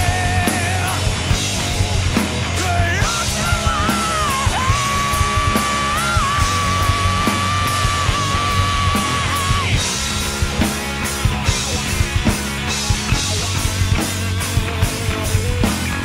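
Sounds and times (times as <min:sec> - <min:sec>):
rock music with guitar: 0:00.0 - 0:16.0.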